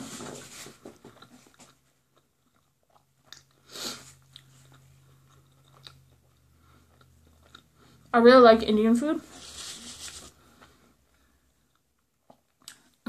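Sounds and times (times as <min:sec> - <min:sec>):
soft chewing: 0:00.9 - 0:08.1, 0:09.4 - 0:13.0.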